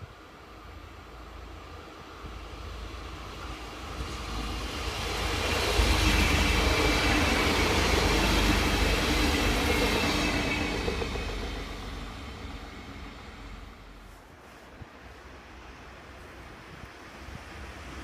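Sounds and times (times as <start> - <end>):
train passing on rails: 0.0 - 18.0.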